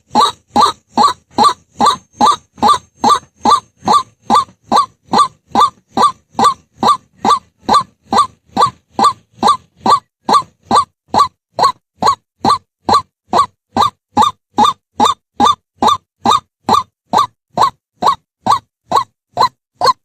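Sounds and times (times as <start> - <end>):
waterhen honking calls: 0.0 - 20.0.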